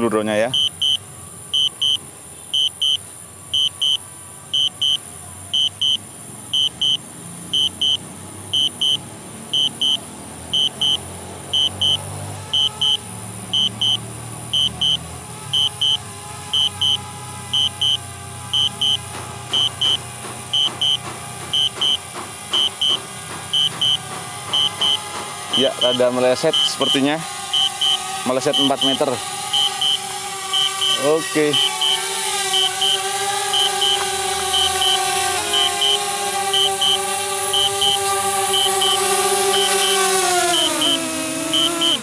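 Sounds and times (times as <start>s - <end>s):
high-pitched double warning beeps: 0.5s - 42.0s.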